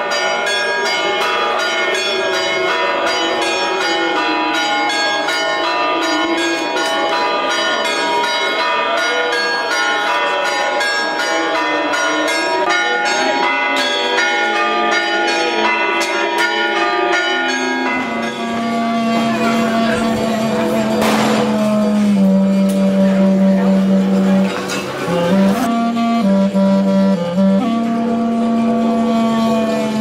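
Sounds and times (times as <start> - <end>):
church bells pealing: 0.0 - 30.0
crowd voices: 0.0 - 30.0.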